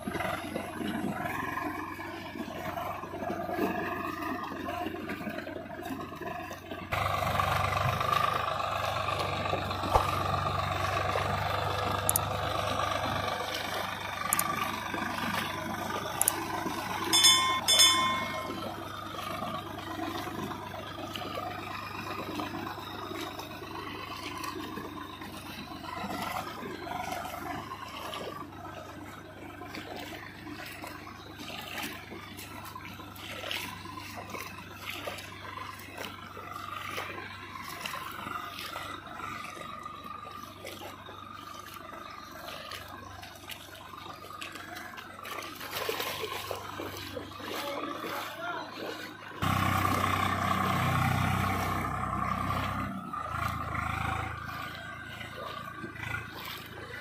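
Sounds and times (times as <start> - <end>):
muddy water sloshing: 0.0 - 57.0
tractor engine drone: 0.0 - 57.0.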